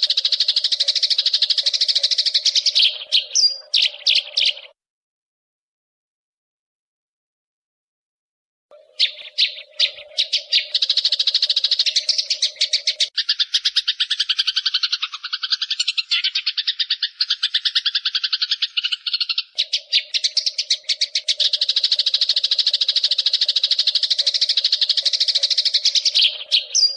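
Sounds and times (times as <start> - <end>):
sparrows chirping: 0.0 - 4.8, 8.7 - 26.9.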